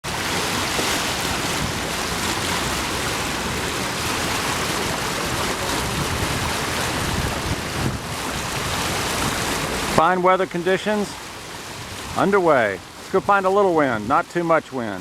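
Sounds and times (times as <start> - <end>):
sea water rushing: 0.0 - 15.0
wind: 0.0 - 15.0.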